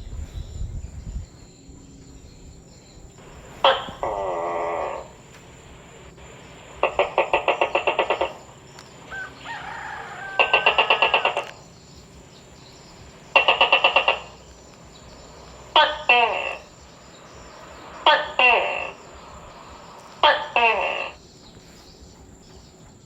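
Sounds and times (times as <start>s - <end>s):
gecko calls: 2.8s - 23.0s.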